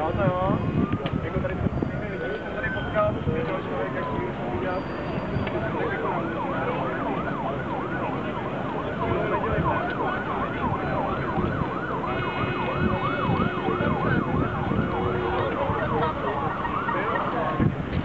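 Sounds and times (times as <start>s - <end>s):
siren rising and falling: 0.0s - 17.8s
steady siren tone: 0.0s - 17.8s
group of cyclists riding: 0.0s - 18.0s.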